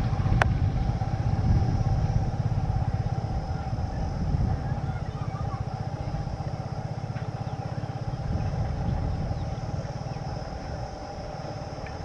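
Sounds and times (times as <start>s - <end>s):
electric train approaching rumble: 0.0s - 12.0s.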